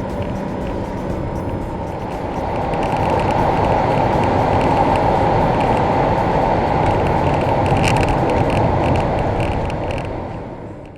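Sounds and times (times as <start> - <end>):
car engine: 0.0 - 10.9
wind noise: 0.0 - 10.9.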